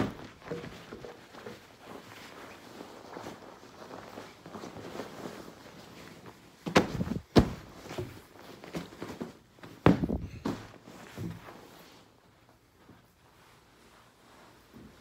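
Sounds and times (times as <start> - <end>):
bedding rustling: 0.0 - 15.0.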